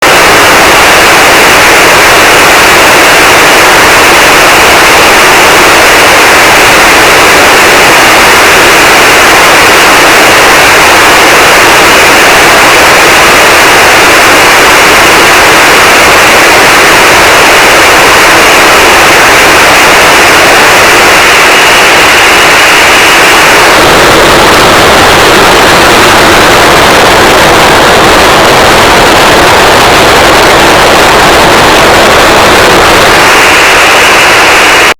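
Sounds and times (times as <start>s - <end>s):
loud distorted static noise: 0.0s - 34.9s.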